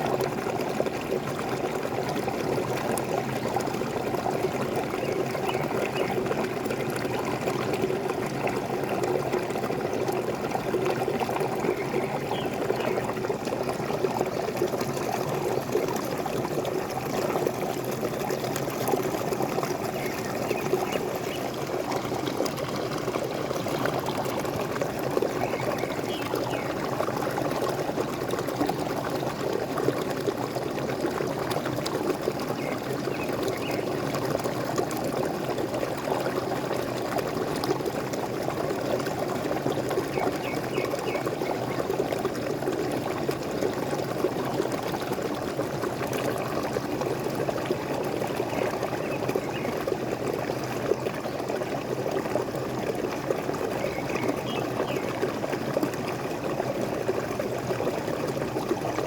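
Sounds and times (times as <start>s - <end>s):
waterfall splashing and gurgling: 0.0s - 59.0s.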